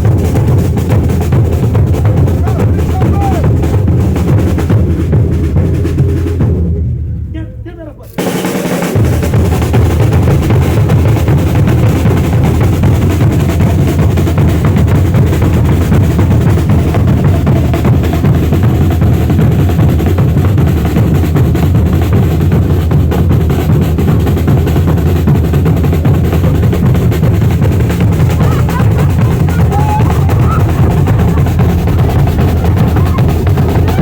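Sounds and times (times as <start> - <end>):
drum-heavy band music: 0.0 - 34.0
drums beating: 0.0 - 34.0.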